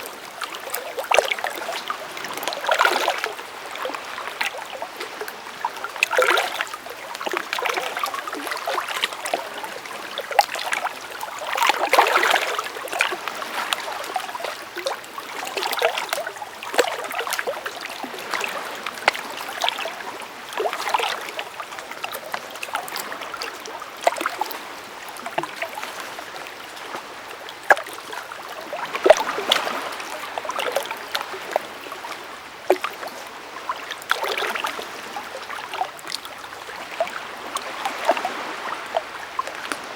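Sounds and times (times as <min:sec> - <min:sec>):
creek water running and splashing: 0:00.0 - 0:39.9.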